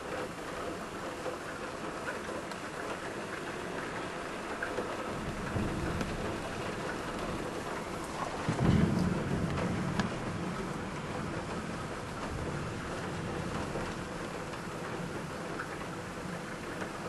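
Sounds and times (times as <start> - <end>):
heavy rain falling: 0.0 - 17.0
thunder rumbling: 3.2 - 17.0.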